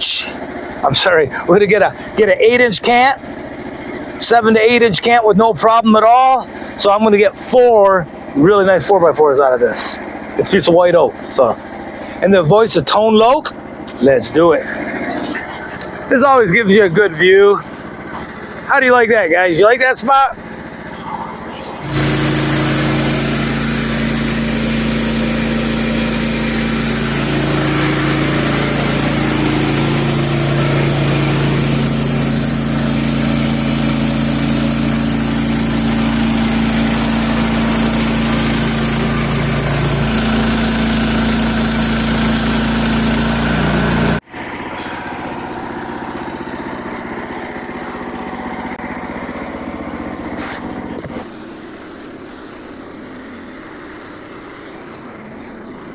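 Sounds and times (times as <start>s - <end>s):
sawmill engine cutting log: 0.0s - 55.9s.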